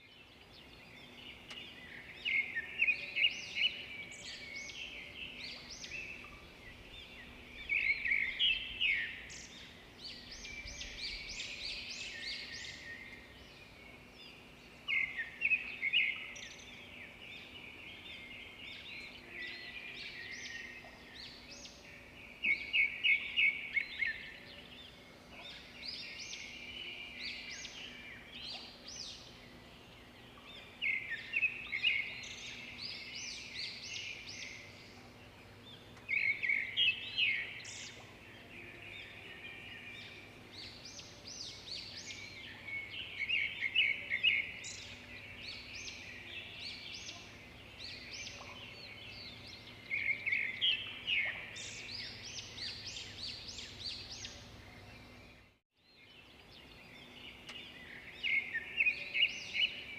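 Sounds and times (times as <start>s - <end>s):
faint background noise: 0.0s - 59.9s
songbirds chirping and trilling: 0.0s - 59.9s.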